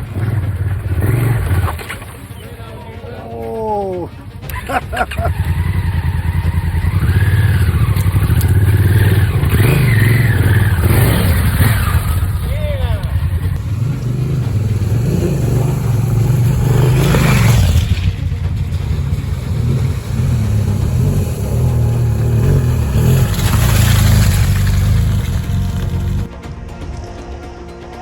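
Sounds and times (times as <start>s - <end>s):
motorcycle engine revving: 0.0s - 2.8s, 4.0s - 26.4s
rushes of noise: 0.0s - 26.4s.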